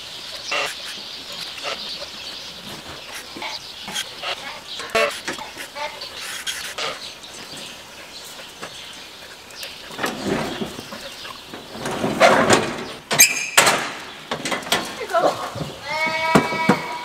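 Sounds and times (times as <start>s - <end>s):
metal scraping and rattling: 2.6s - 17.0s.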